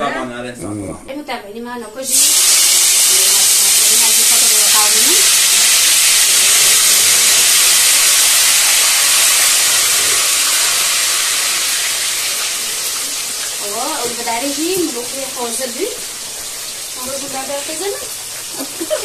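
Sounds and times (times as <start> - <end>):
loud steady hiss: 2.1 - 19.0.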